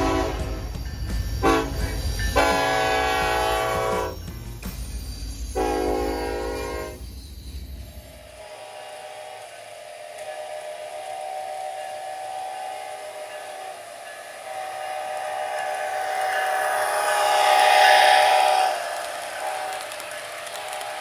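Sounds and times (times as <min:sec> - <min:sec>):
model train chime horn: 0:00.0 - 0:04.3, 0:05.5 - 0:07.2, 0:08.4 - 0:20.0
model train running on track: 0:00.0 - 0:21.0.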